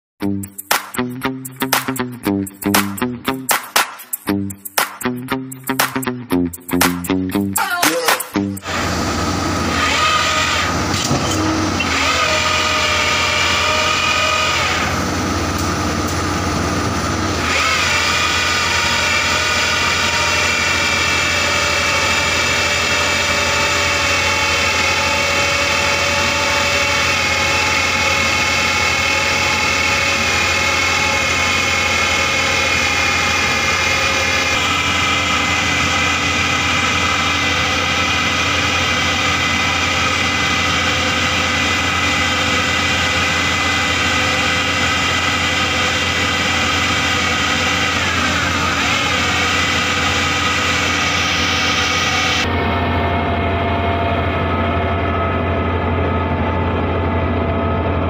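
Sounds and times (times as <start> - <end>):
diesel engine hum: 4.3 - 58.0
high hydraulic whine: 8.3 - 58.0.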